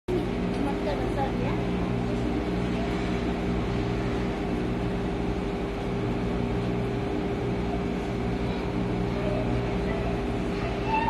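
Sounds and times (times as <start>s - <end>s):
mechanical hum: 0.1s - 11.0s.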